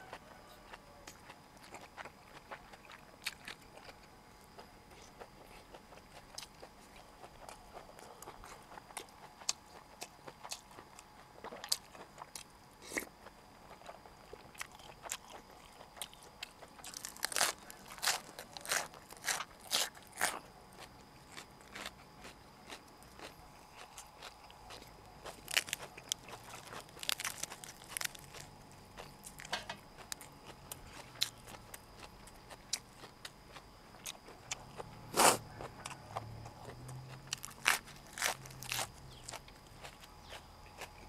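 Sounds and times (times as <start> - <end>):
crisp chewing crunches: 0.0 - 41.0.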